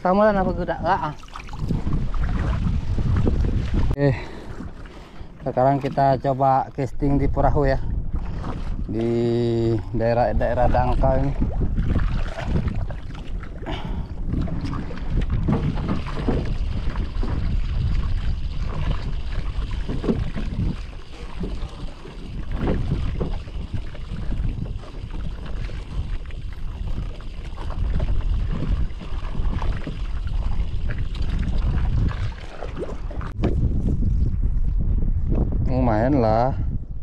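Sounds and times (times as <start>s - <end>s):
wind buffeting microphone: 0.0s - 37.0s
water slapping against boat hull: 0.1s - 34.3s.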